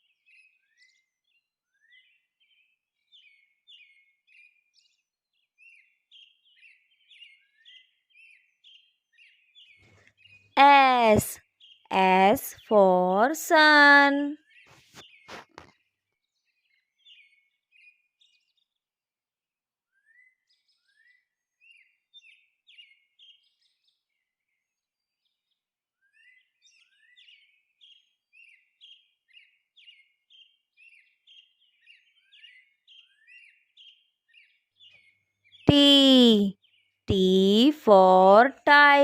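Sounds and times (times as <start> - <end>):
faint birdsong chirps: 0.0 - 15.6, 16.2 - 18.8, 19.9 - 38.4.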